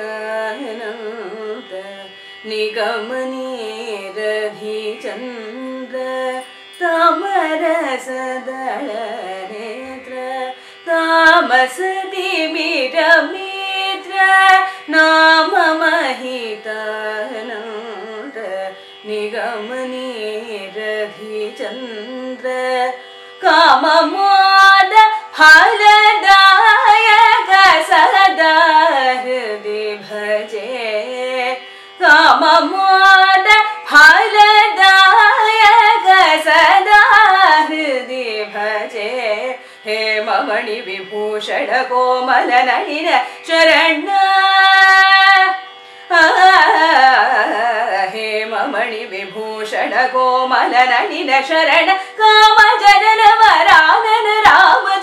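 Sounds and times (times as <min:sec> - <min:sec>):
woman singing: 0:00.0 - 0:55.0.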